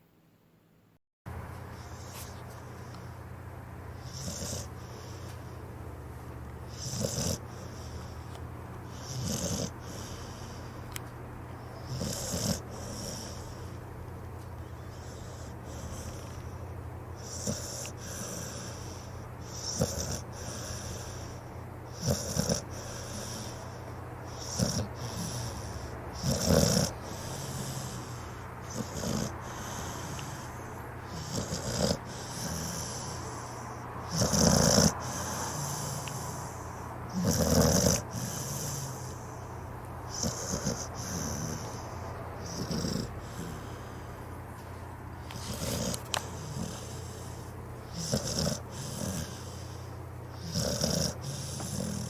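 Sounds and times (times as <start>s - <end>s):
steady low hum: 0.0s - 52.0s
dog snoring: 3.9s - 5.5s, 6.6s - 11.0s, 11.7s - 13.8s, 14.7s - 44.2s, 45.2s - 52.0s.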